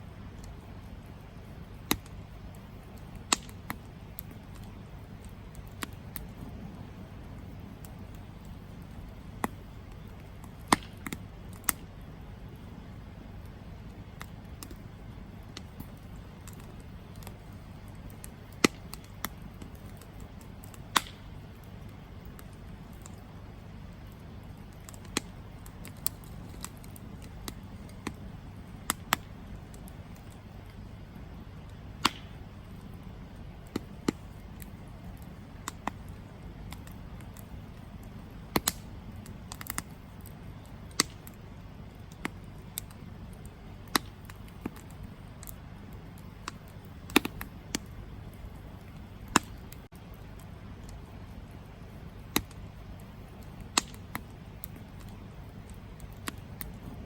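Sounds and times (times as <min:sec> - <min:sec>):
campfire crackling and popping: 0:00.0 - 0:57.0
low rumble of flames: 0:00.0 - 0:57.0.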